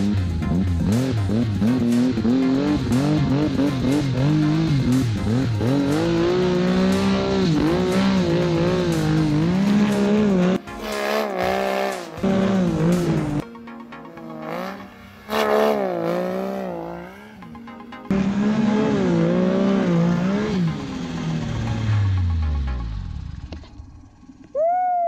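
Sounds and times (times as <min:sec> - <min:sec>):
snowmobile engine revving: 0:00.0 - 0:23.5.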